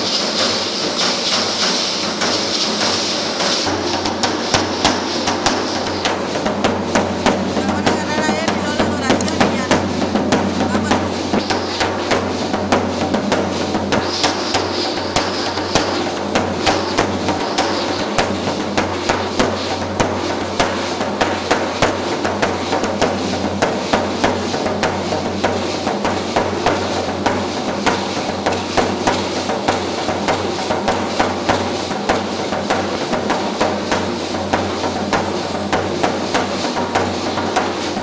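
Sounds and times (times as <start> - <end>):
fast percussion strikes: 0.0 - 38.0.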